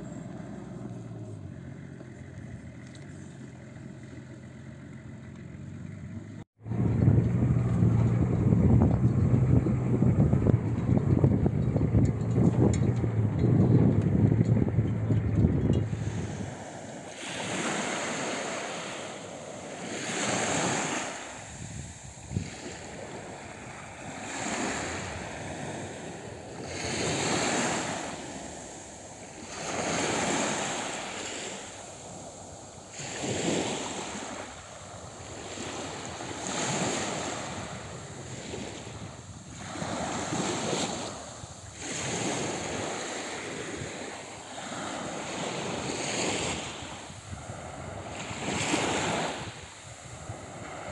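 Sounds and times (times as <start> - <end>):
sea waves washing ashore: 0.0 - 50.9
wind buffeting microphone: 6.6 - 50.9.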